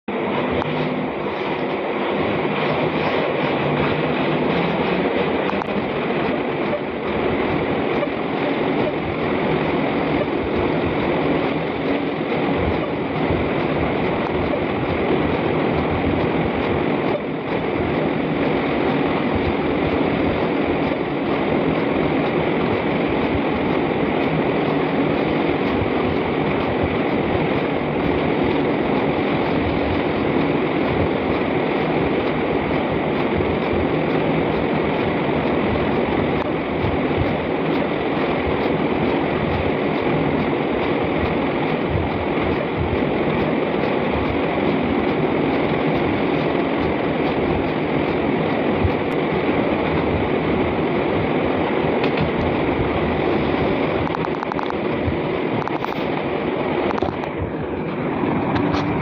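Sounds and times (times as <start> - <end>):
loud rushing noise: 0.0 - 59.0.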